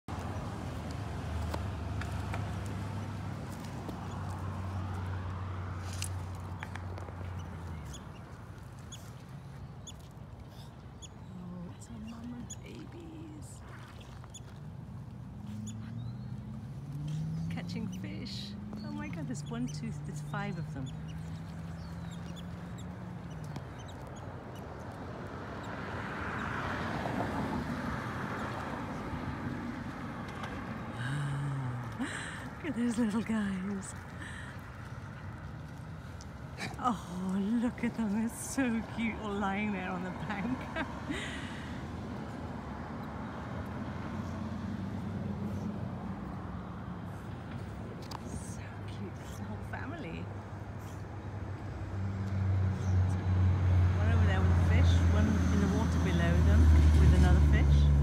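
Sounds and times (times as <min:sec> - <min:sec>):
low motor hum: 0:00.0 - 0:58.0
traffic going by: 0:00.0 - 0:58.0
car passing: 0:00.1 - 0:09.6, 0:11.3 - 0:58.0.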